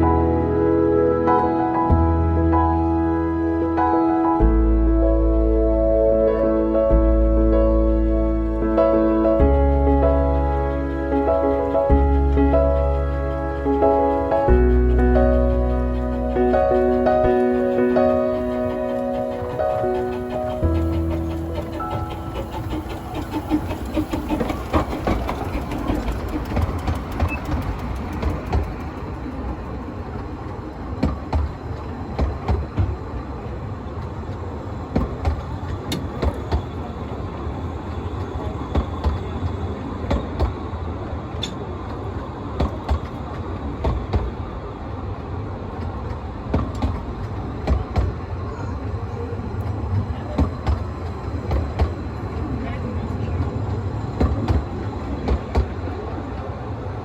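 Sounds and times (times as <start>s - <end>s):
train rumbling: 0.0s - 57.0s
wheels clicking over rail joints: 8.8s - 56.5s.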